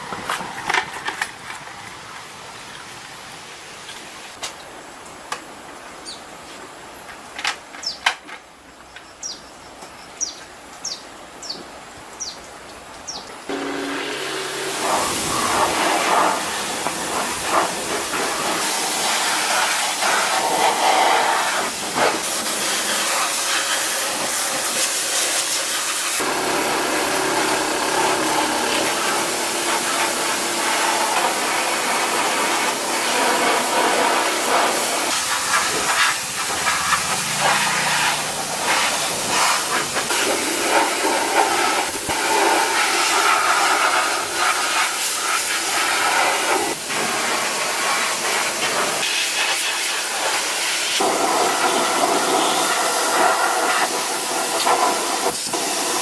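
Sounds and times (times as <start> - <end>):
loud steady hissing: 10.6 - 56.0.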